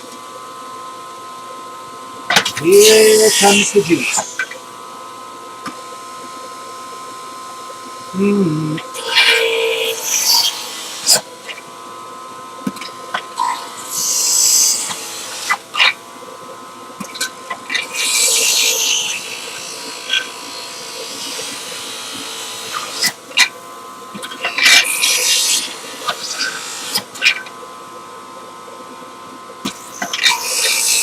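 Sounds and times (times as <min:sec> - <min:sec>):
juicer grinding fruit: 0:00.0 - 0:31.0
juicer motor whine: 0:00.0 - 0:31.0.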